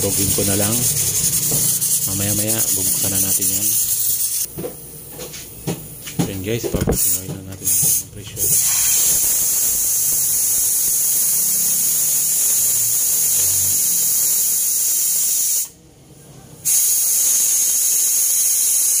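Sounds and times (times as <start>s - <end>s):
pressure cooker steam hissing: 0.0s - 4.5s, 7.0s - 15.7s, 16.6s - 19.0s.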